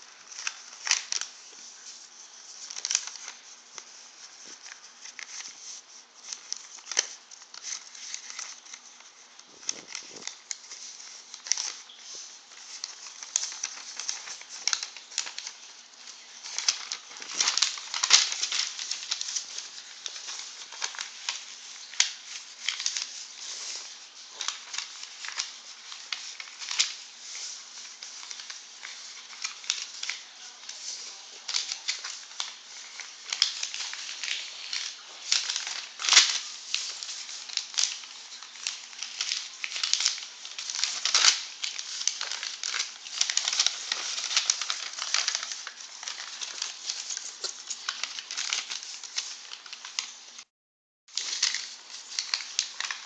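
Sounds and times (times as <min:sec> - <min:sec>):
paper rustling and crinkling: 0:00.0 - 0:50.5, 0:51.1 - 0:53.0.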